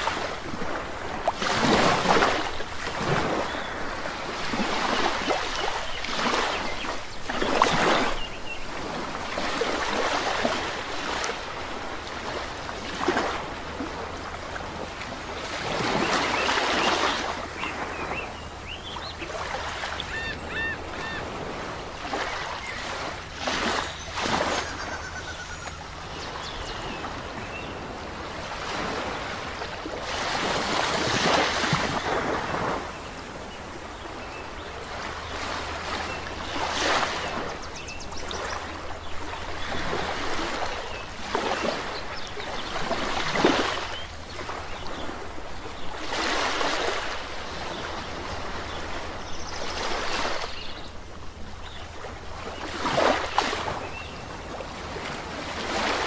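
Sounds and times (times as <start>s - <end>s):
sea waves washing onto shore: 0.0s - 56.0s.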